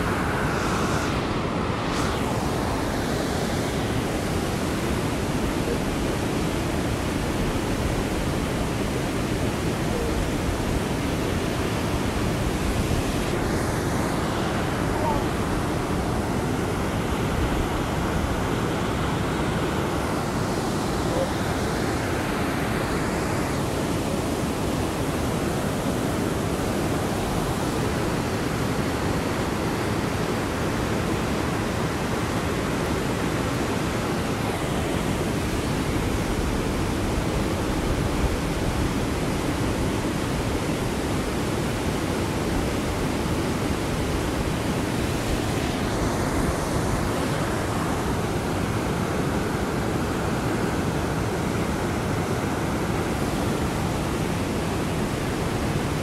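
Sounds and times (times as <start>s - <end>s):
river rushing through rapids: 0.0s - 56.0s.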